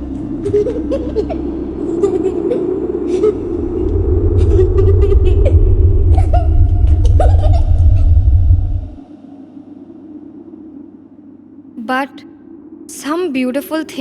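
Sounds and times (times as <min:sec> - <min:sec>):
loud deep rumble: 0:00.0 - 0:13.0.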